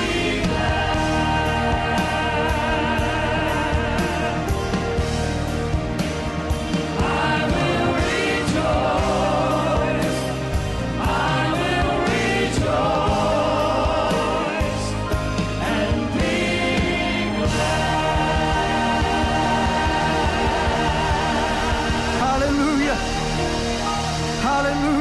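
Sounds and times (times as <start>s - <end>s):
choir singing: 0.0s - 24.2s
band playing steady beat: 0.0s - 24.8s.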